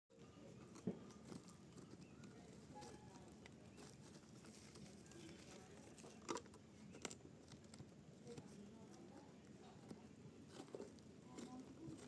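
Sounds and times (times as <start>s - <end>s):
dried mud crunching: 0.2s - 12.0s.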